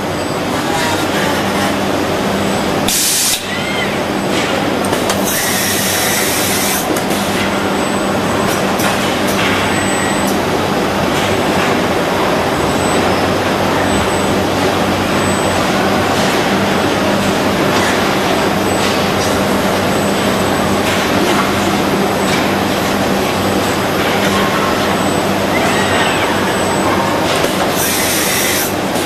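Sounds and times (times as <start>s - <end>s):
industrial machinery hum: 0.0s - 29.0s.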